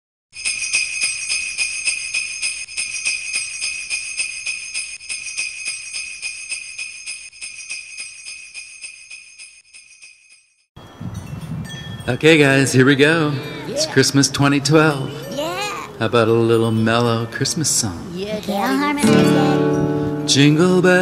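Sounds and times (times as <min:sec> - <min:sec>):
jingle bells shaken: 0:00.4 - 0:17.8.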